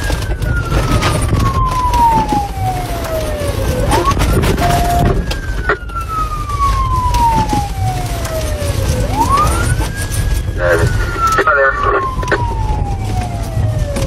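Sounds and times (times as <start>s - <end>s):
car engine and road rumble: 0.0s - 14.0s
police siren wailing: 0.0s - 14.0s.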